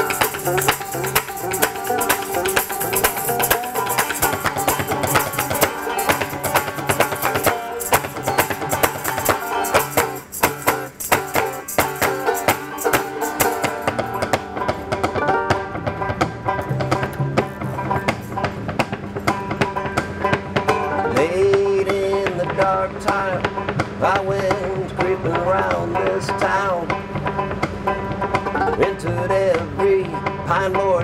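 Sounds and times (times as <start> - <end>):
banjos picking: 0.0 - 31.0
hand percussion beat: 0.0 - 31.0
upright double bass: 0.0 - 31.0.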